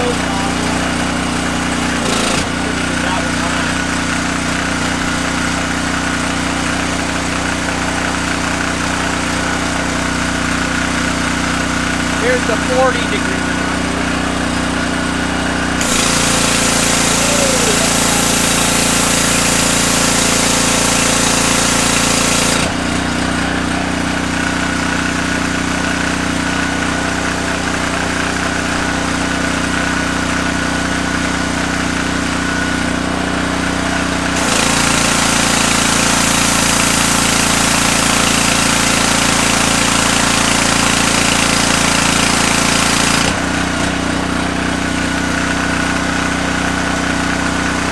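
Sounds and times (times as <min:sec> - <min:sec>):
high-pressure water jet hissing: 0:00.0 - 0:44.2
pressure washer engine running: 0:00.0 - 0:47.9.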